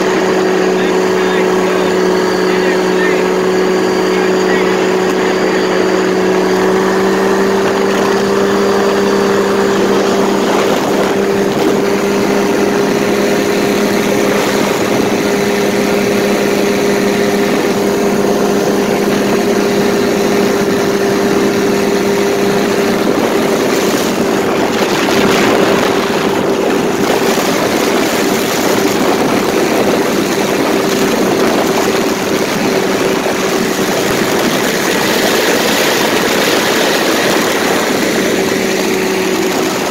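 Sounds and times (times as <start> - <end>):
paramotor engine droning: 0.0 - 39.9.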